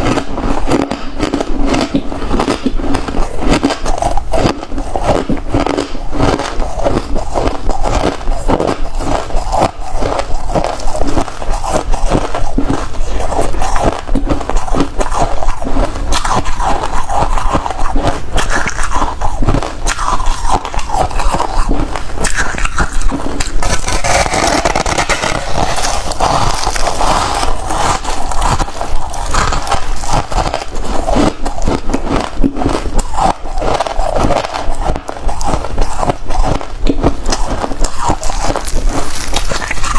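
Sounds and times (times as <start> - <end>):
frost being bitten and chewed: 0.0 - 39.9.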